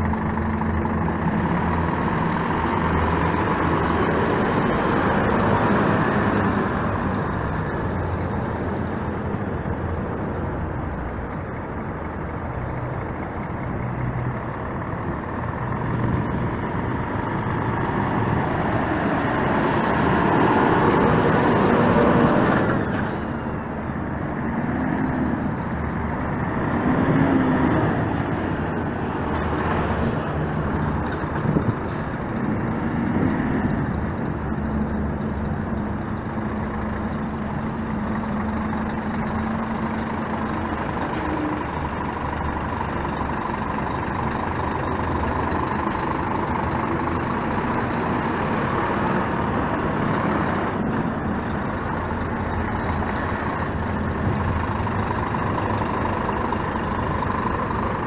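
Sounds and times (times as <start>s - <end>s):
truck diesel engines running: 0.0s - 58.0s.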